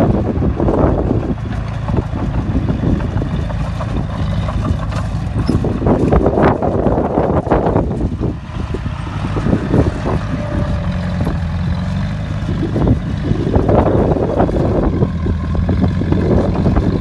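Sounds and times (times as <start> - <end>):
bulldozer diesel engine: 0.0 - 17.0
tracks and blade clanking: 1.1 - 17.0.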